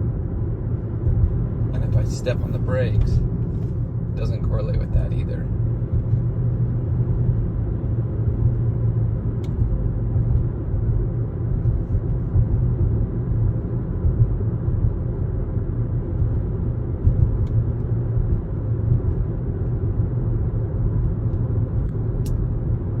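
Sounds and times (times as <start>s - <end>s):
road and drivetrain rumble: 0.0s - 23.0s.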